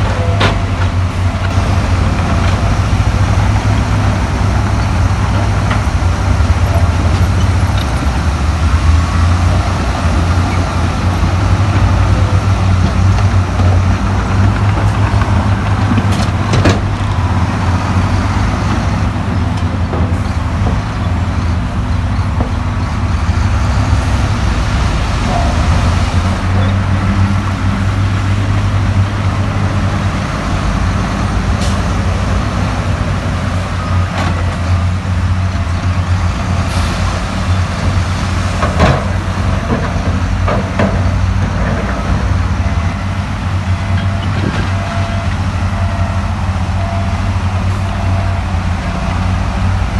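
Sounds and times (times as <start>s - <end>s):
heavy diesel engine humming: 0.0s - 49.9s.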